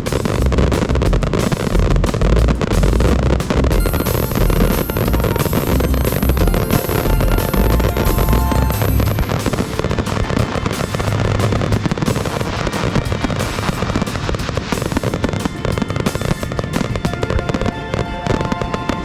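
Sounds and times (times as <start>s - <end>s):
firework bursts and crackling: 0.0s - 19.0s.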